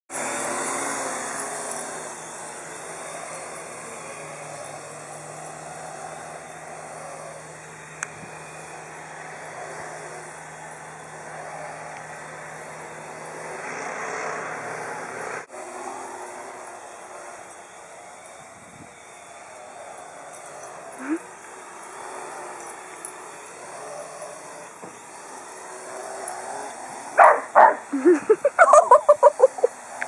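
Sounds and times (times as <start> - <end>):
toy helicopter rotor whirring: 0.1 - 30.0.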